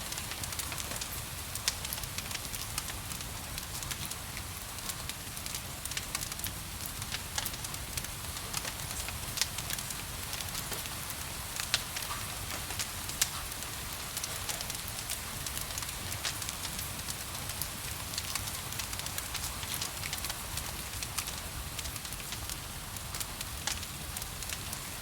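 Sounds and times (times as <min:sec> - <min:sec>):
gentle rain hiss: 0:00.0 - 0:25.0
wood fire crackling and popping: 0:00.0 - 0:25.0.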